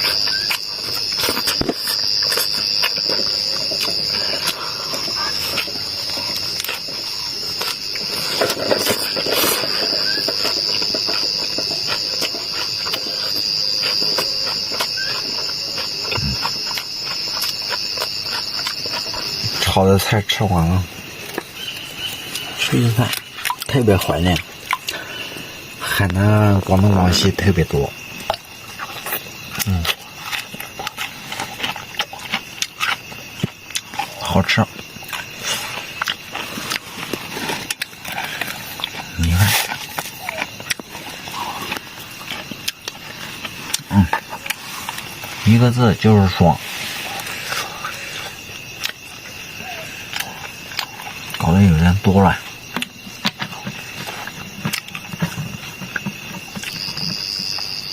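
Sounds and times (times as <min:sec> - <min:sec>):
person chewing food: 0:00.0 - 0:19.7, 0:21.0 - 0:25.8, 0:27.9 - 0:45.4, 0:46.6 - 0:51.4, 0:52.4 - 0:57.8
insects trilling: 0:00.0 - 0:57.9.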